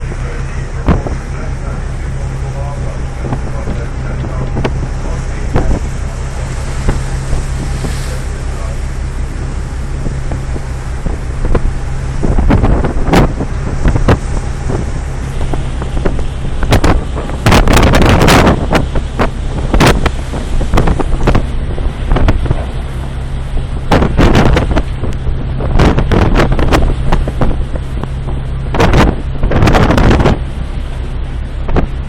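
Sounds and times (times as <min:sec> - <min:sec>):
ship low hum: 0:00.0 - 0:32.0
wind gusts buffeting microphone: 0:00.0 - 0:32.0.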